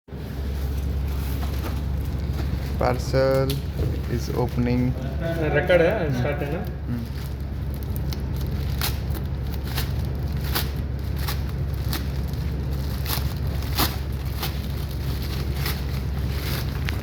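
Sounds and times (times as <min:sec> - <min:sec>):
steady low hum: 0:00.1 - 0:17.0
packaging crinkling and crackling: 0:00.4 - 0:17.0.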